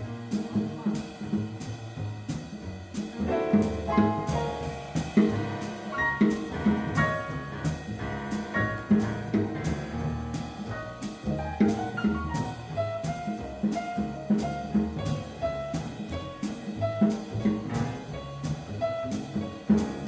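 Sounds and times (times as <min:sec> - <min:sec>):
double bass: 0:00.0 - 0:20.0
drums cymbal beat: 0:00.0 - 0:20.0
jazz piano: 0:00.0 - 0:20.0.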